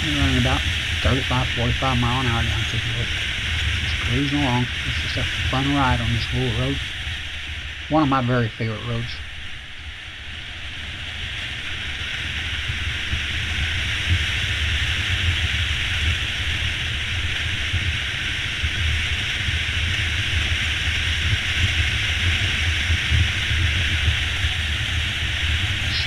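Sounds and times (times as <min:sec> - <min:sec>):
road hiss: 0:00.0 - 0:26.0
wind: 0:00.0 - 0:26.0.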